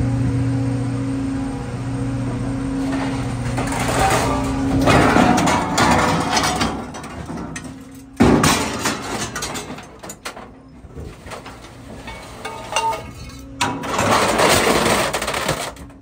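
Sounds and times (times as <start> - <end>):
machine humming: 0.0 - 16.0
loud metal crash: 2.8 - 16.0
scrap metal clattering: 2.8 - 16.0.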